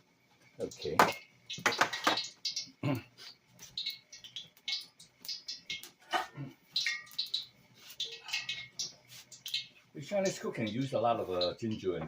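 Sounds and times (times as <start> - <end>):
hot oil crackling in a pan: 0.0 - 12.0.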